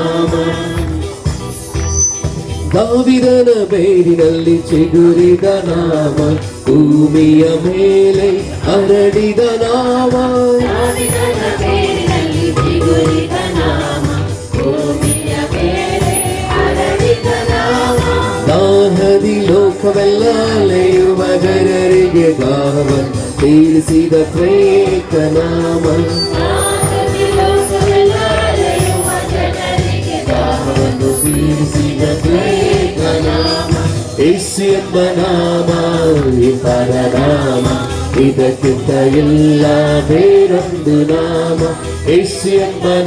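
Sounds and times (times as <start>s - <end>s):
person singing worship song: 0.0s - 1.2s, 2.7s - 43.0s
pulsing bass: 0.0s - 3.4s, 4.2s - 43.0s
full band accompaniment: 0.0s - 43.0s.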